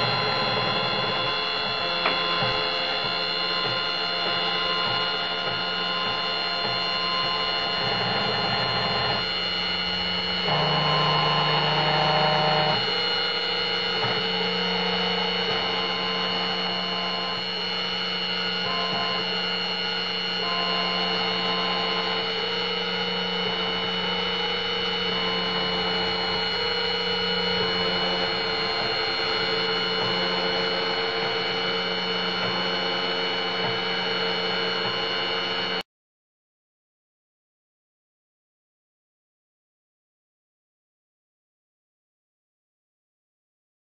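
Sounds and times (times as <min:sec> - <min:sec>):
engraving machine spindle whine: 0:00.0 - 0:35.8.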